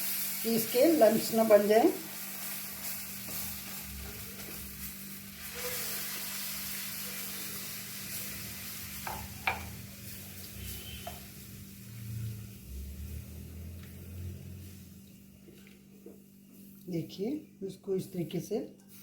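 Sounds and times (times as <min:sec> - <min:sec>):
batter sizzling in a pan: 0:00.0 - 0:15.9.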